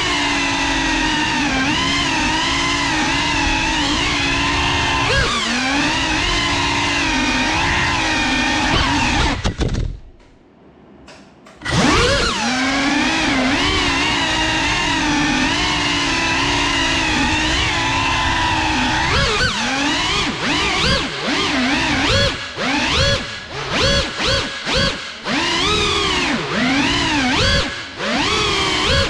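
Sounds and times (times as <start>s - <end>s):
drone motors whining: 0.0s - 10.3s, 11.5s - 29.0s.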